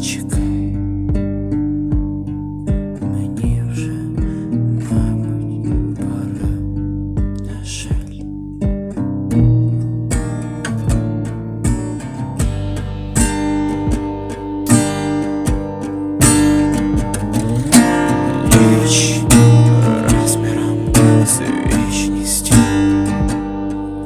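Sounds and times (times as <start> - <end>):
steady beat: 0.0 - 24.0
strummed acoustic guitar: 0.0 - 24.0.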